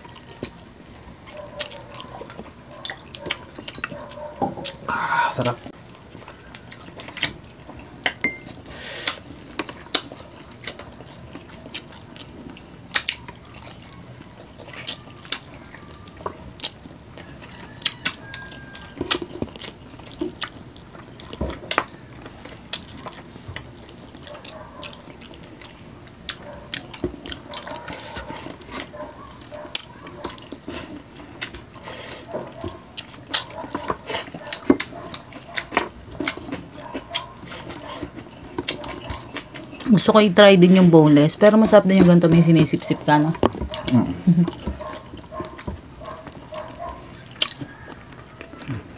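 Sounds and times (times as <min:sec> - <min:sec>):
wet chewing and lip-smacking: 0:01.3 - 0:04.9, 0:05.7 - 0:40.0, 0:42.8 - 0:48.9.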